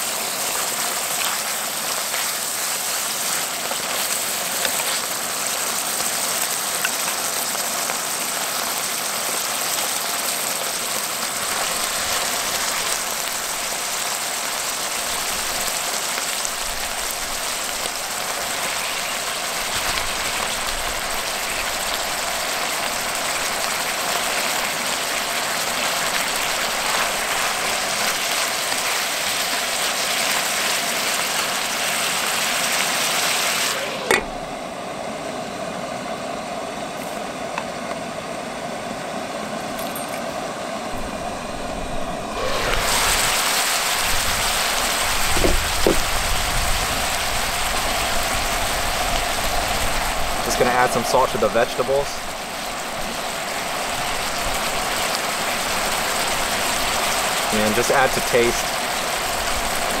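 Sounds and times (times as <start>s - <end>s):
meat sizzling in a frying pan: 0.0s - 34.1s, 42.3s - 60.0s.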